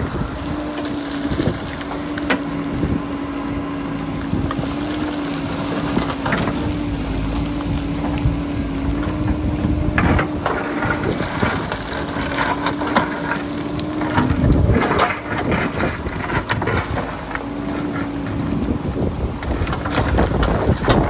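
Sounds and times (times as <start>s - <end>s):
bucket scraping rock and soil: 0.0s - 21.0s
diesel engine droning: 0.0s - 21.0s
wind buffeting microphone: 0.0s - 21.0s.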